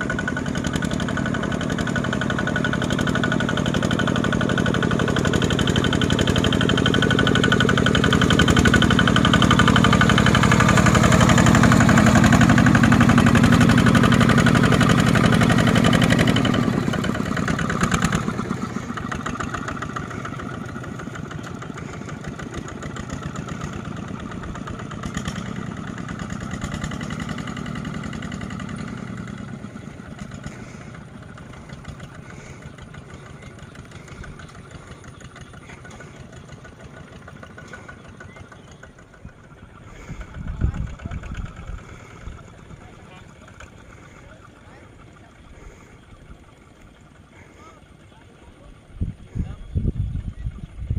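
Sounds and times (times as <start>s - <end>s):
diesel tractor engine chugging: 0.0s - 50.9s.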